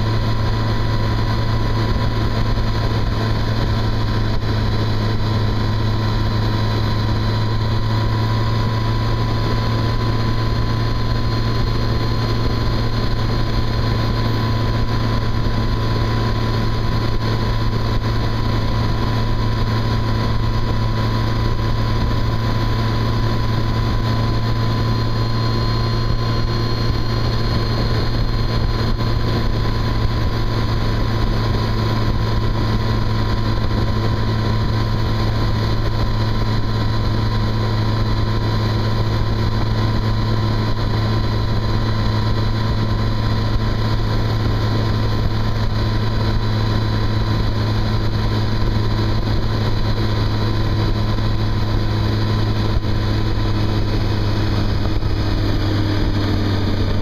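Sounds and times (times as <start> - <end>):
motorcycle engine droning: 0.0 - 57.0
wind and road noise: 0.0 - 57.0.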